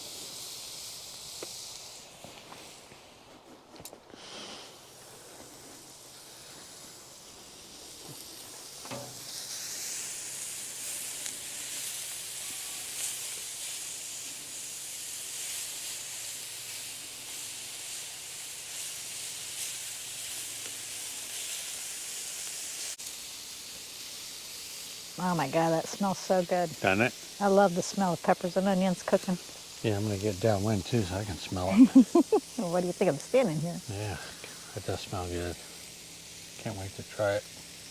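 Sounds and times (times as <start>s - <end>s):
vegetables sizzling on a griddle: 0.0s - 37.9s.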